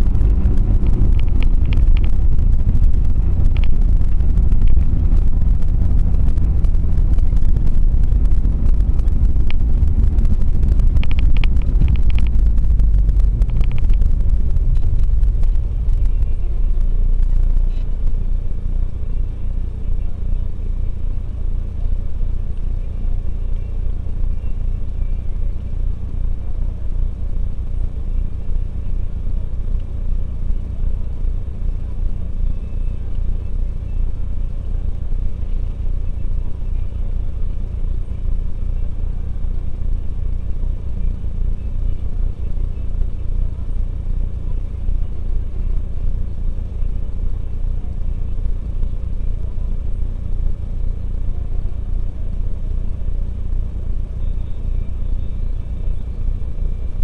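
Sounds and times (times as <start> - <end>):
car interior low rumble: 0.0 - 57.0.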